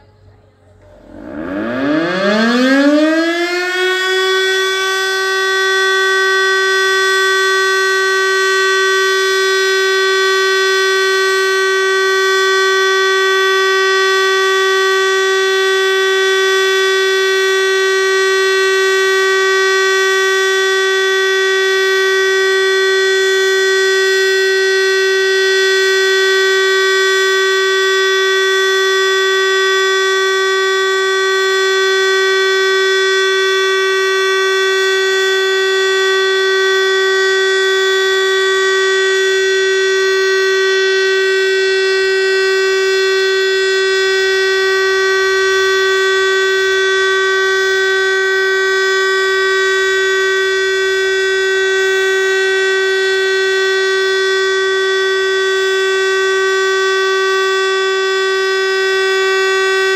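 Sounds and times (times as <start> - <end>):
siren steady tone: 0.0 - 59.9.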